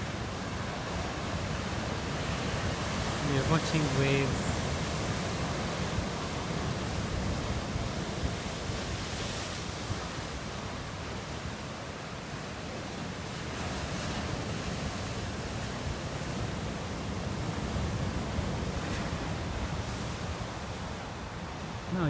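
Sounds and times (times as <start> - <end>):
ocean surf breaking: 0.0 - 21.9.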